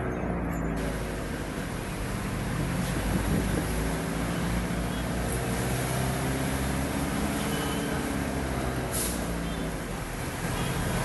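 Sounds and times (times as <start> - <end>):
car engine drone: 0.0 - 11.0
tyre and water road noise: 0.0 - 11.0.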